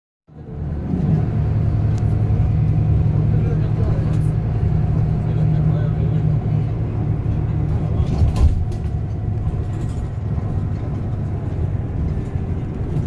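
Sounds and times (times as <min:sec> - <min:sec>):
vehicle cabin rumble: 0:00.3 - 0:13.0.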